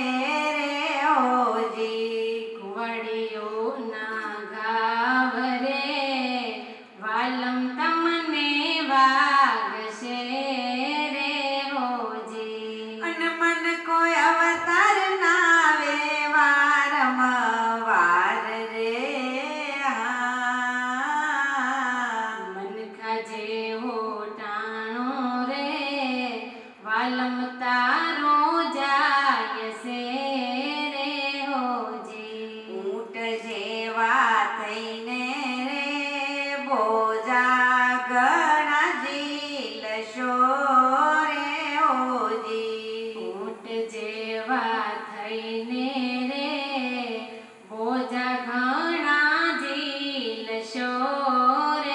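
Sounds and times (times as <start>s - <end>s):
women singing devotional song: 0.0s - 51.9s.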